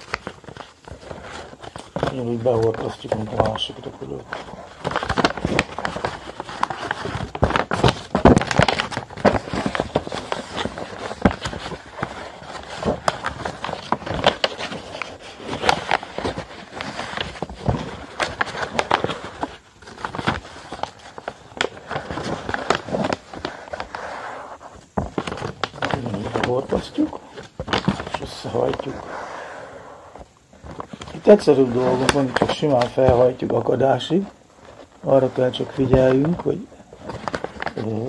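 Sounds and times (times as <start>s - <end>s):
paper rustling and crackling: 0.0s - 38.0s.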